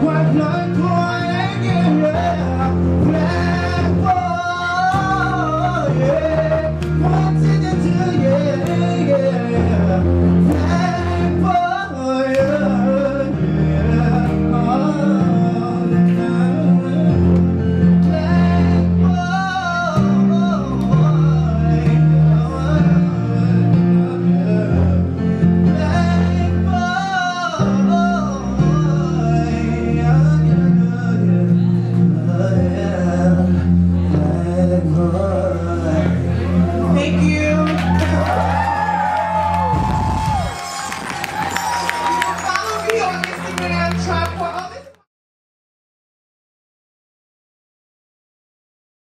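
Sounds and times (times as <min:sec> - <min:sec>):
man singing: 0:00.0 - 0:39.5
electric keyboard chords: 0:00.0 - 0:45.0.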